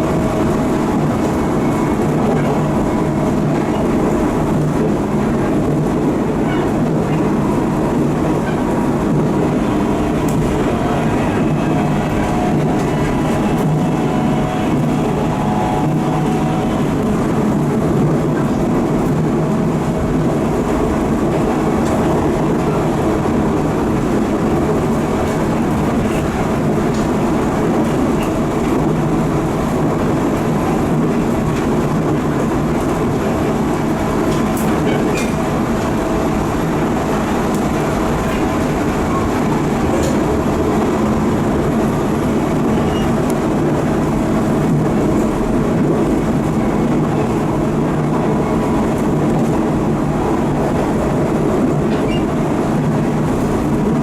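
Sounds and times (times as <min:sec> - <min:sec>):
train bogie drone: 0:00.0 - 0:54.0
wheel and rail noise: 0:00.0 - 0:54.0.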